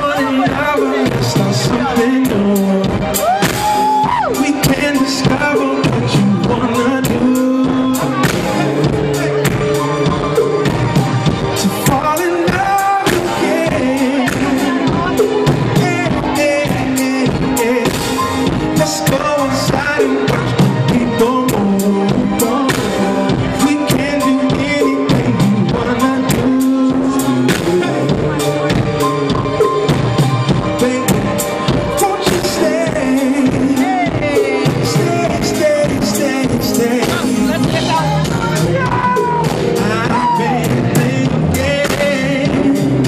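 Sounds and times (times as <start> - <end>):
bass and other instruments: 0.0 - 43.0
drum kit beat: 0.0 - 43.0
man singing: 0.0 - 43.0.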